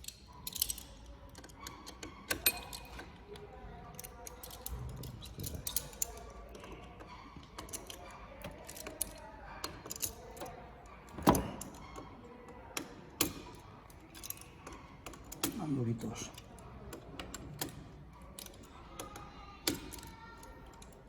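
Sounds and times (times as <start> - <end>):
tools and metal parts clinking: 0.0 - 21.0.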